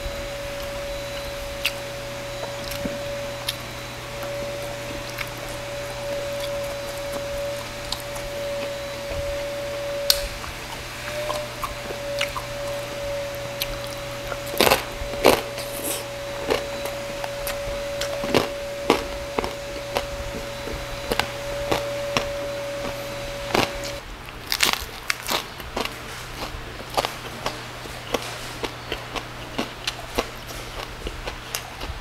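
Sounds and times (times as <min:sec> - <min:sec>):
crunchy chewing: 0:00.0 - 0:32.0
steady hum: 0:00.0 - 0:32.0.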